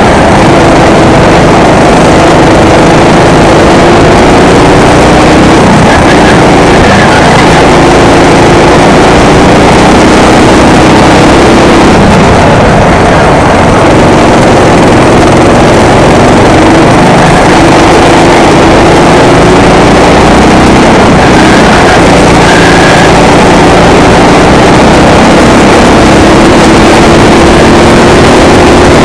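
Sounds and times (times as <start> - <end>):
go-kart engine revving: 0.0 - 29.0
wind rush on microphone: 0.0 - 29.0.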